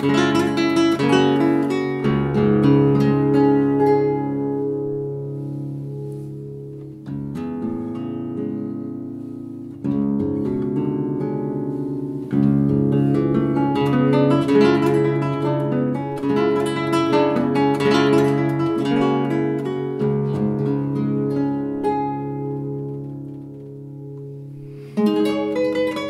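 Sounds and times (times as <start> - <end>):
classical guitar playing: 0.0 - 26.0.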